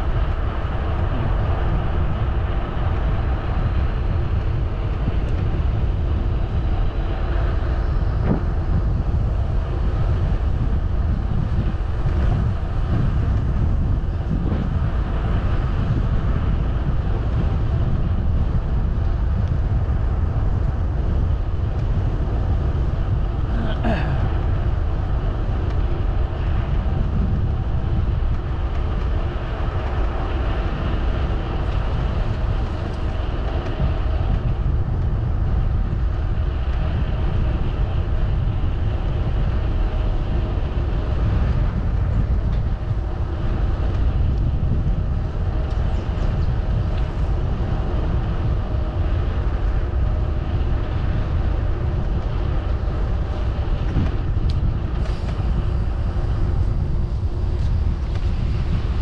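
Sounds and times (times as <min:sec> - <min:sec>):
bicycle tyres rolling on path: 0:00.0 - 0:59.0
faint constant hum: 0:00.0 - 0:59.0
wind buffeting microphone: 0:00.0 - 0:59.0.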